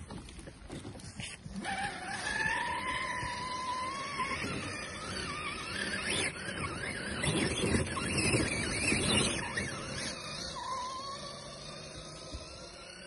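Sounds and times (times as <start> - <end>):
electric motor whining: 0.0 - 13.0
tyres scrabbling in dirt: 0.0 - 13.0.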